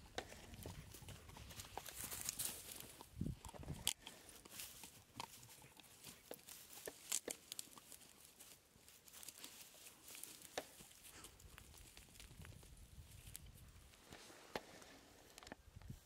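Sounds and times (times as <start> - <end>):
dry grass crackling and rustling: 0.0 - 16.0.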